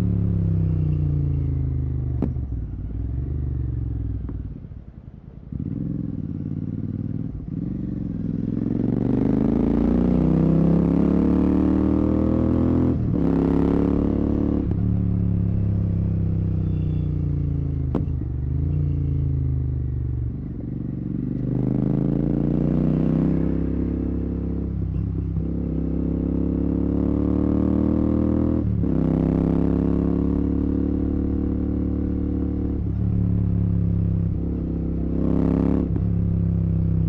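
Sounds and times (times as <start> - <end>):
motorcycle engine revving through gears: 5.5 - 37.0.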